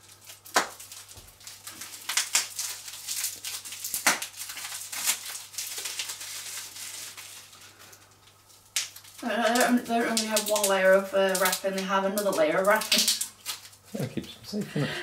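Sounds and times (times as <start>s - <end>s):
packaging crinkling and rustling: 0.0s - 14.4s.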